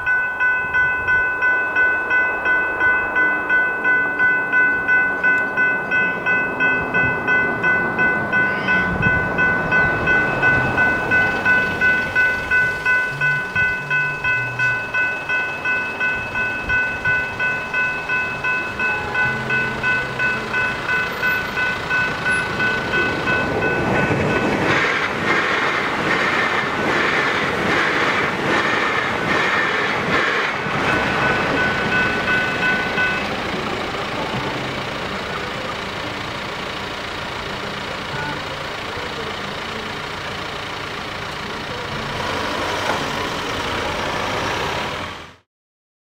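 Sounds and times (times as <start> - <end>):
level crossing bells ringing: 0.0 - 45.4
train rushing past: 0.0 - 45.4
road traffic hum: 0.1 - 45.4.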